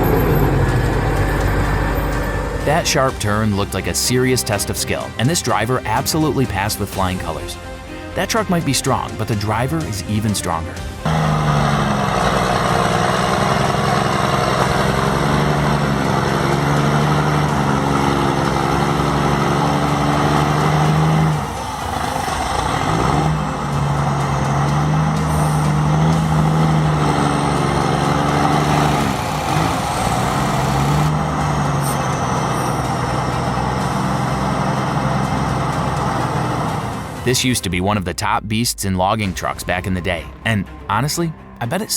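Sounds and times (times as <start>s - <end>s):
truck diesel engine under load: 0.0s - 37.3s.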